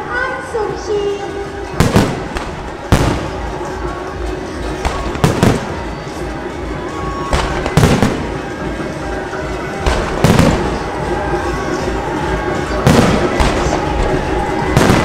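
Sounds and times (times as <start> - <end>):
fireworks bangs: 1.6 - 4.0, 4.6 - 15.0
fireworks crackle: 1.6 - 15.0.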